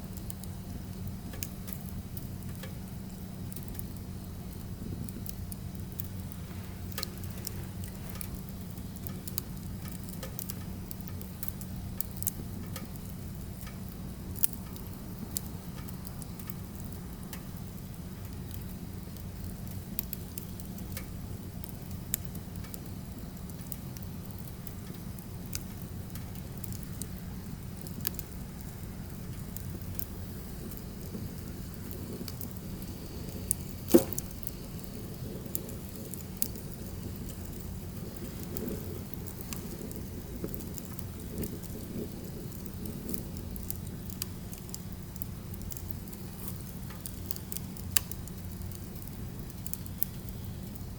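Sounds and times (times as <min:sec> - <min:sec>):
fire popping: 0:00.0 - 0:50.9
firewood burning crackling: 0:00.0 - 0:50.9.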